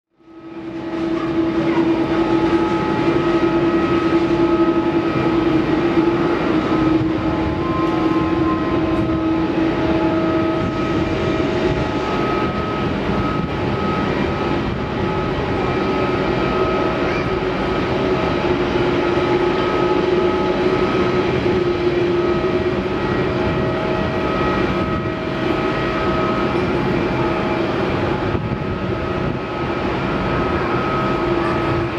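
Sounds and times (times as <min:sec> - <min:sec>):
jet engines roaring: 0:00.2 - 0:31.9.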